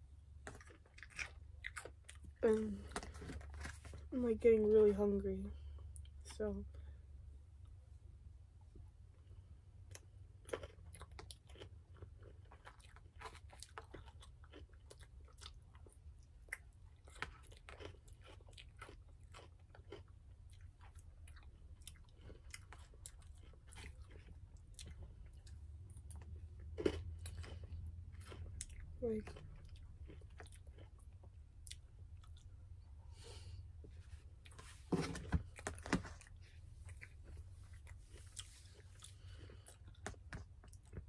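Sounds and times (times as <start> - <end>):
low steady hum: 0.0 - 41.0
person chewing: 0.2 - 3.8, 9.8 - 41.0.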